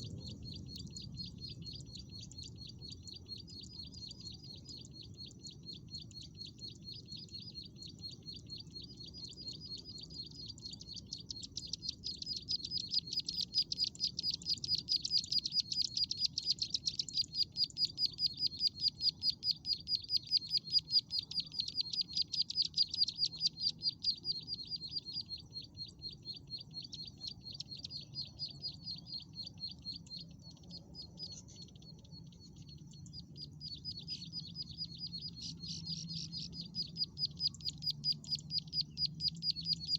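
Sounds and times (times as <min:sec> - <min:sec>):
bird chirping rapidly: 0:00.2 - 0:39.9.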